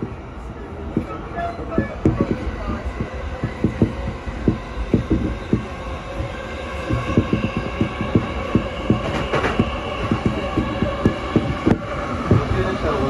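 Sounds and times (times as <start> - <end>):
train rumble from inside car: 0.0 - 13.0
wheels clacking on track: 0.9 - 13.0.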